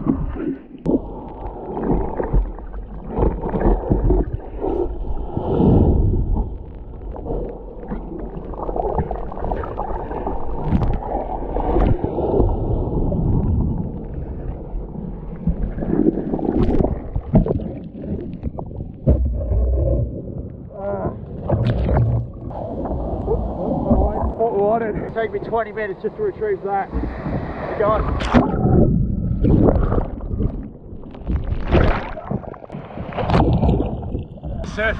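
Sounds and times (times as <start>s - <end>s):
gurgling water and bubbles: 0.0s - 34.9s
underwater churning surf: 0.0s - 34.9s.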